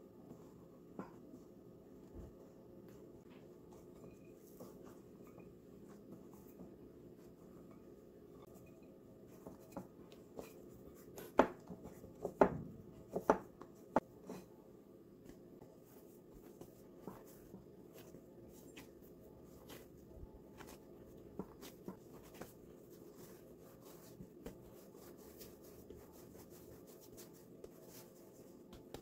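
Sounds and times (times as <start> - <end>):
hands kneading dough: 0.0 - 29.0.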